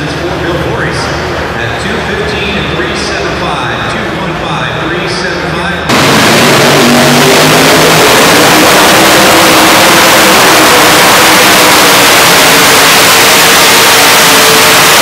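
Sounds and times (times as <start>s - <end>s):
tractor engines howling at full throttle: 0.0s - 15.0s.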